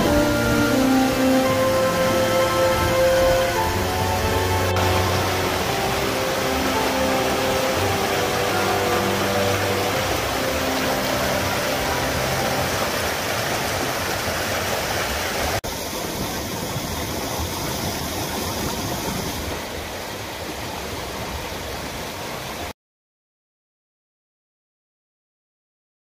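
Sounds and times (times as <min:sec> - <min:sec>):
waterfall rushing: 0:00.0 - 0:22.7.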